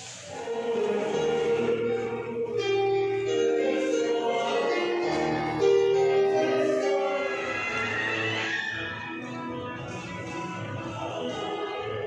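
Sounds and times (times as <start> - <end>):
instrumental background music: 0.3 - 12.0.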